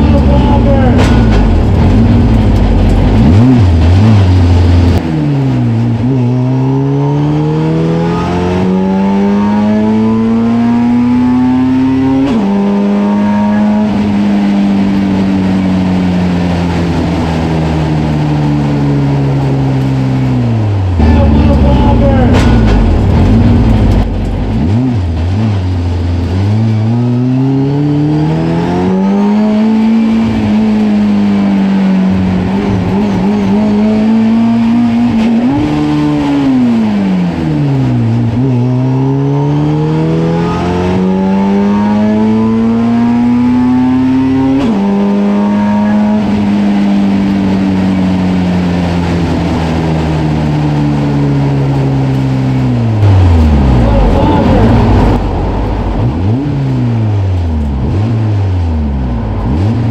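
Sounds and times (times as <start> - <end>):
engine accelerating through gears: 0.0 - 59.9.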